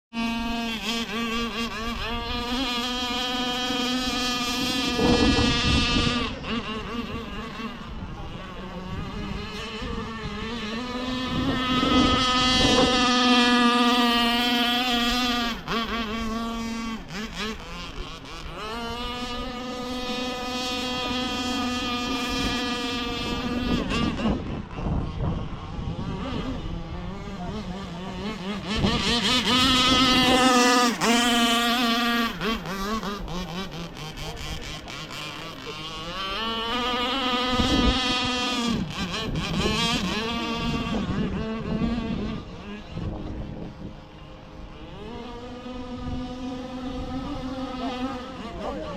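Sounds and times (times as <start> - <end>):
model boat engine buzzing: 0.1 - 48.9.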